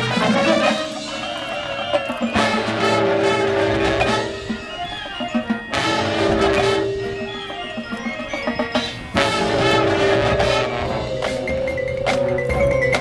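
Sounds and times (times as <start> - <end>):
brass chords: 0.0 - 13.0
marching band playing: 0.0 - 13.0.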